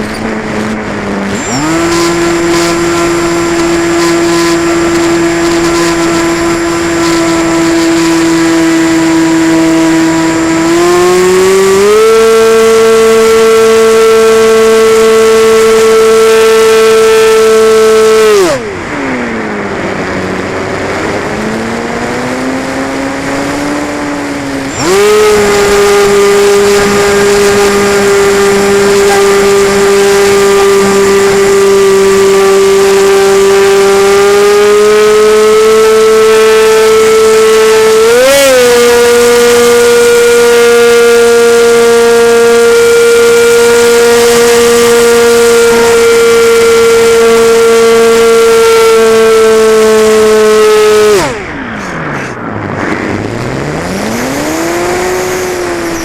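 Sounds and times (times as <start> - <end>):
model airplane motor whine: 0.0 - 51.7, 53.1 - 56.0.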